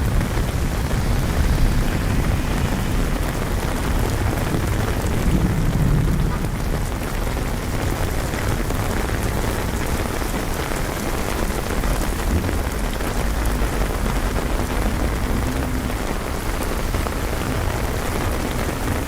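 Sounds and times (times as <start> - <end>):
low rumble: 0.0 - 19.0
rain falling on streets: 0.0 - 19.0.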